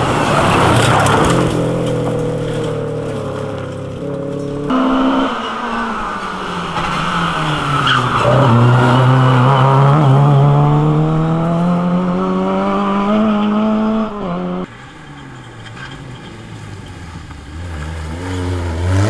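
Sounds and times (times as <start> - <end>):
rally car engine passing at high revs: 0.0 - 19.0.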